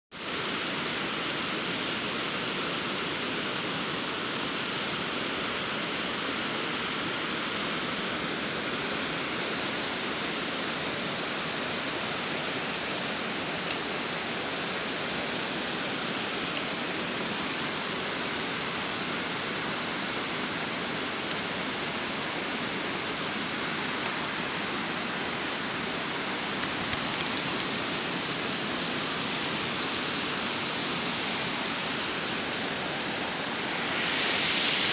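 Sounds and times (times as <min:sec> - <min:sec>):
water rushing over weir: 0:00.2 - 0:34.9.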